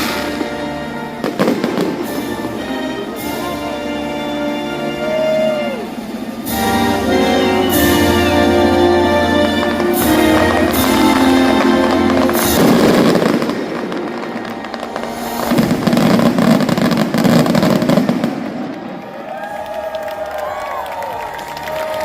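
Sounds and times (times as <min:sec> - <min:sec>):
music playing: 0:00.0 - 0:18.5
fireworks bursting and crackling: 0:00.0 - 0:22.0.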